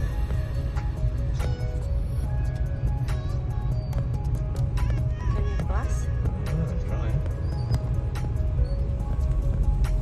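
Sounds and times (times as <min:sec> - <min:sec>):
background music with sustained notes: 0:00.0 - 0:10.0
steady low rumble: 0:00.0 - 0:10.0.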